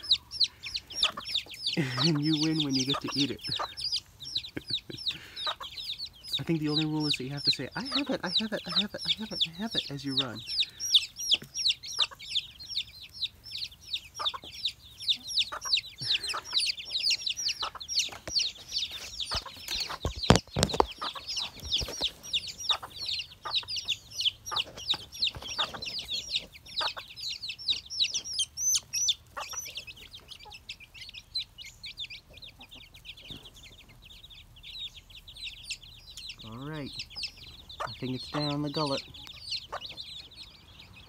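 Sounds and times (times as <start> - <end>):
chicks peeping: 0.0 - 41.0.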